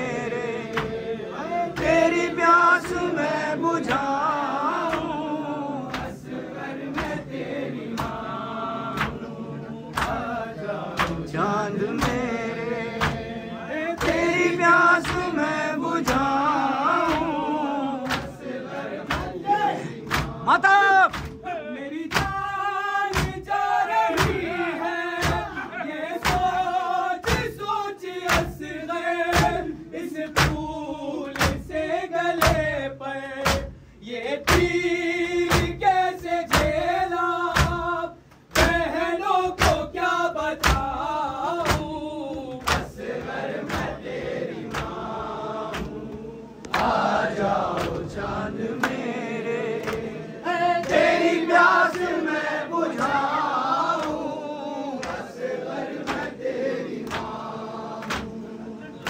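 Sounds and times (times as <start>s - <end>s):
hands beating chests rhythmically: 0.0s - 59.0s
voices chanting: 0.0s - 59.0s.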